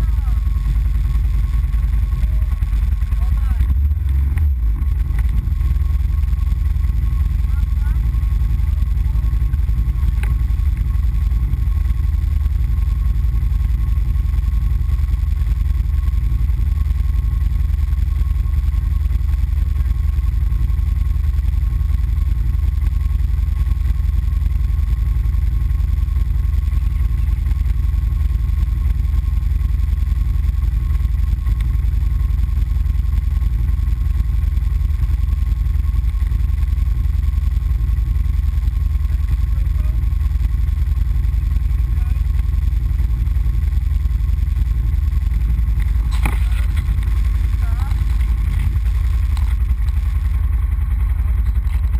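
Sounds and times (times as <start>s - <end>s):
atv engine idling: 0.0s - 51.9s.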